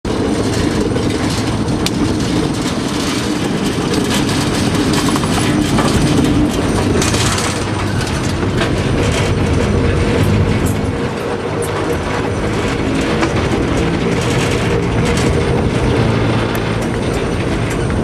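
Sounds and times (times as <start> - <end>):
diesel engine running: 0.1 - 18.0
wheels clicking over rail joints: 0.1 - 18.0.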